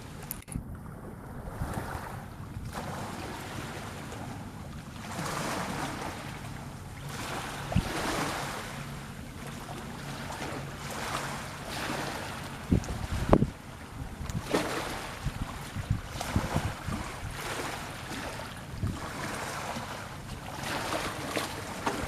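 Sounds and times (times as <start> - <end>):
sea waves washing: 0.0 - 22.0
wind buffeting microphone: 0.0 - 22.0.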